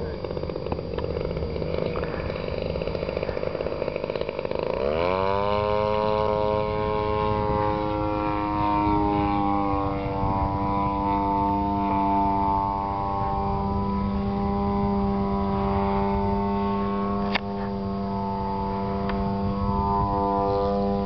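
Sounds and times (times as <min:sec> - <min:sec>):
model airplane engine: 0:00.0 - 0:21.0.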